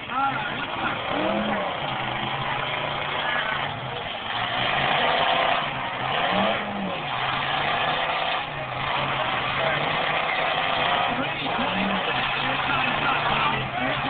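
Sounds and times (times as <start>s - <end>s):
car engine revving: 0.0s - 14.0s
car engines running: 0.0s - 14.0s.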